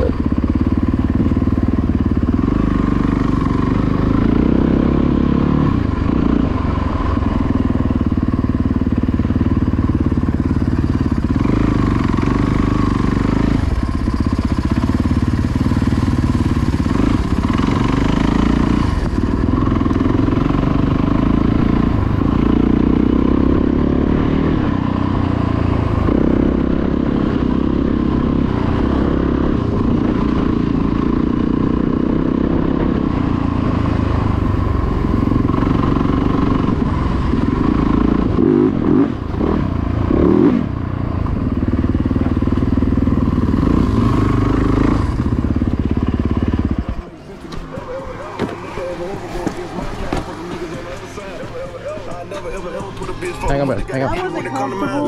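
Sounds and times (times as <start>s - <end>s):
dirt bike engine running hard: 0.0s - 55.0s.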